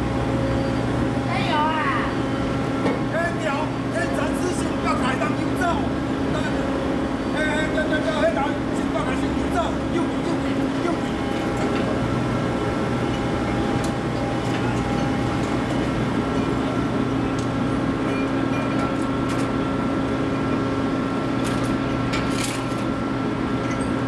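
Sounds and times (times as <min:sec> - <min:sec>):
heavy machinery drone: 0:00.0 - 0:24.0.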